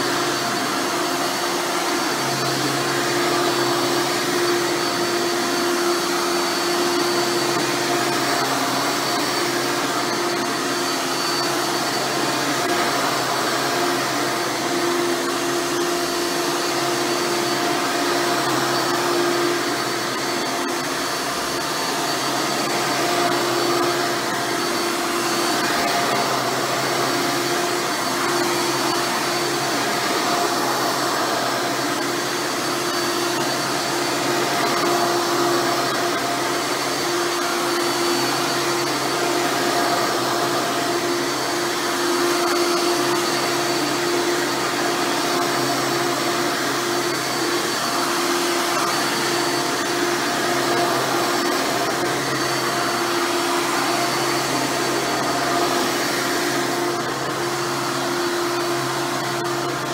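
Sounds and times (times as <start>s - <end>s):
upright vacuum running on carpet: 0.0s - 59.9s.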